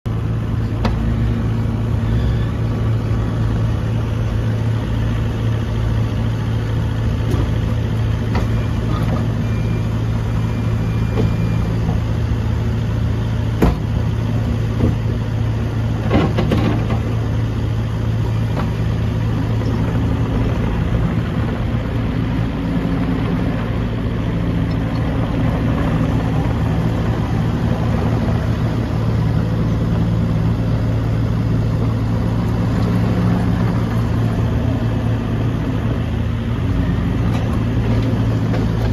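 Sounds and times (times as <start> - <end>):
diesel engine idling: 0.1 - 38.9.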